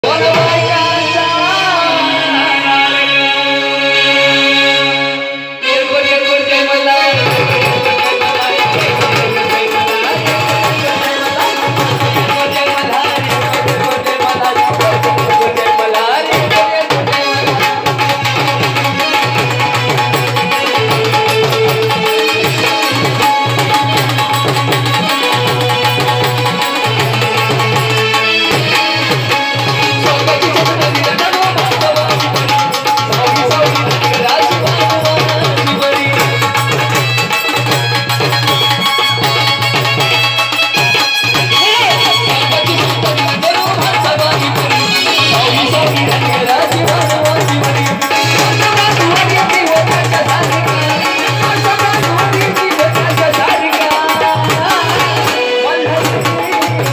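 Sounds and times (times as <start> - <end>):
instrumental melody: 0.0 - 56.9
hand drum beat: 7.2 - 56.9.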